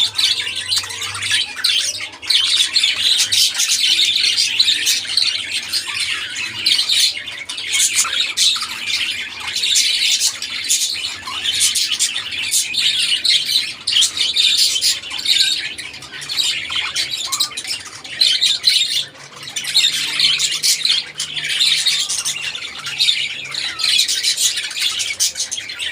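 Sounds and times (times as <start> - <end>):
budgerigars chirping and squawking: 0.0 - 25.9.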